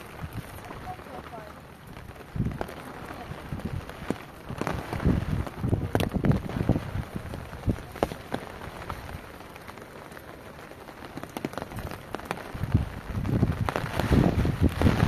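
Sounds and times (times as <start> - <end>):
steady rain falling: 0.0 - 15.0
water dripping and splashing off roof: 0.0 - 15.0.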